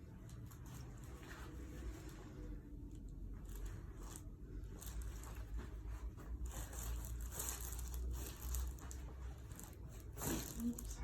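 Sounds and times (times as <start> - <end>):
soft rustling and crinkling: 0.0 - 11.0.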